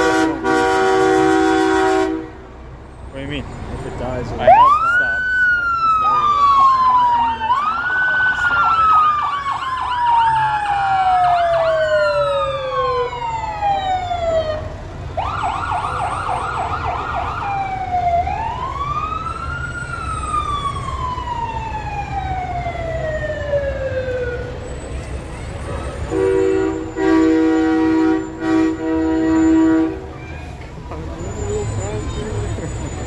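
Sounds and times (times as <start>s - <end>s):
emergency vehicle sirens: 0.0s - 33.0s.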